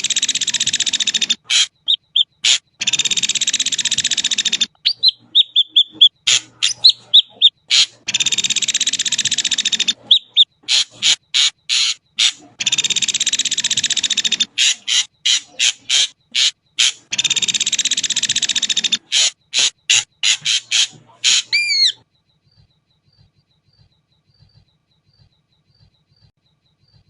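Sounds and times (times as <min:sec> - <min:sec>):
bird harsh buzzing calls: 0:00.0 - 0:22.0
bird whistled notes: 0:00.0 - 0:22.0.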